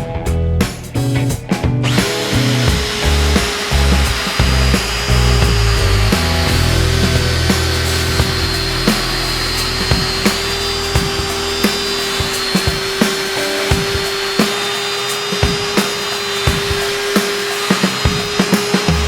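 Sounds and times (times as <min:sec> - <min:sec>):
background music with a beat: 0:00.0 - 0:19.0
electric drill motor running: 0:01.8 - 0:18.4.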